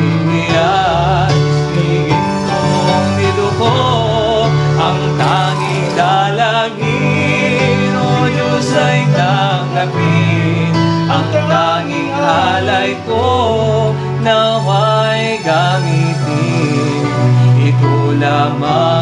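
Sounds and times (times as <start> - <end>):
guitar: 0.0 - 19.0
person singing slow melody: 0.0 - 19.0.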